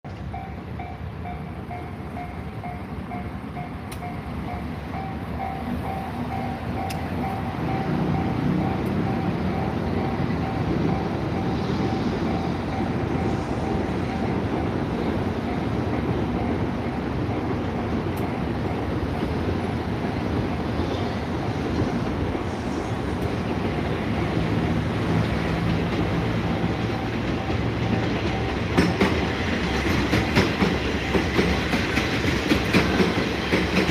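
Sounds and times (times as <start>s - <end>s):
train rumble: 0.1s - 33.9s
level crossing warning bell: 0.2s - 21.3s, 23.6s - 31.8s.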